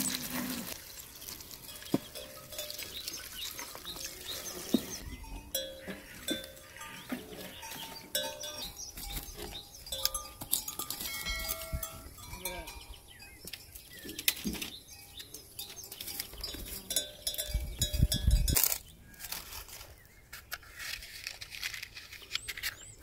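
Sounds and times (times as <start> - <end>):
goat bells clinking: 0.0 - 19.4.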